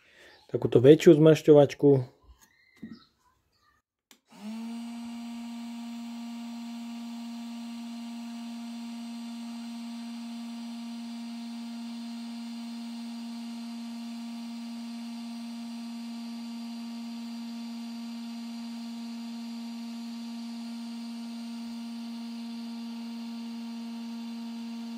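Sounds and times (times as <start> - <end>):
heat gun fan humming: 4.1 - 24.9.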